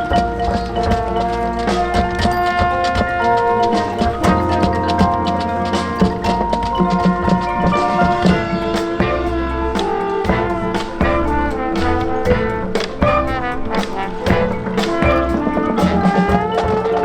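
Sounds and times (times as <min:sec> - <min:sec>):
brass chords: 0:00.0 - 0:17.0
drums and percussion beat: 0:00.0 - 0:17.0
marching band playing: 0:00.0 - 0:17.0.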